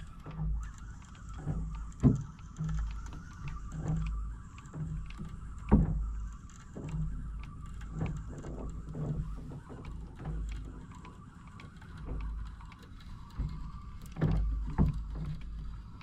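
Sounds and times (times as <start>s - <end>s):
water slapping boat hull: 0.0s - 16.0s.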